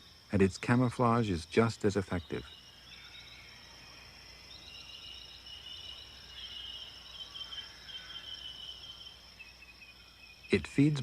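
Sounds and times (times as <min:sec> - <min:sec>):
chirping insect trills: 0:00.0 - 0:11.0
high-pitched insect trill: 0:00.0 - 0:11.0.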